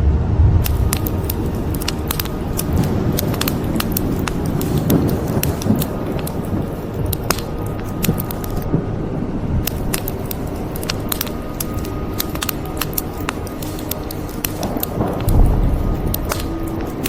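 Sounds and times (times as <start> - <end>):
rain: 0.0 - 17.0
wood fire crackling: 0.6 - 17.0.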